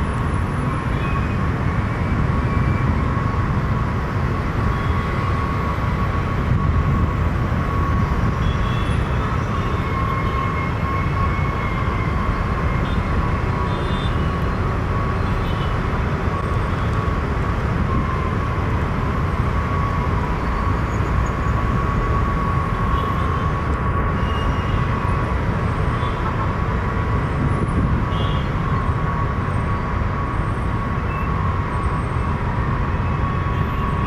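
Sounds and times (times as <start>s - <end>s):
jet engines rumbling and whining: 0.0s - 34.0s.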